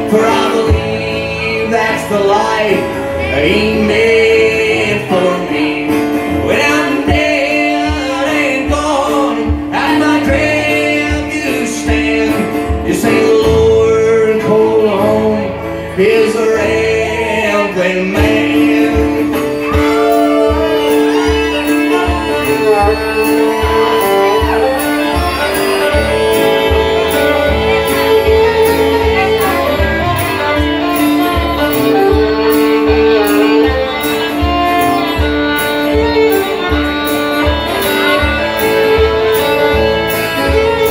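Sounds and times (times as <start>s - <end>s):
man singing: 0.0s - 39.8s
fiddle: 0.0s - 40.9s
strummed acoustic guitar: 0.0s - 40.9s.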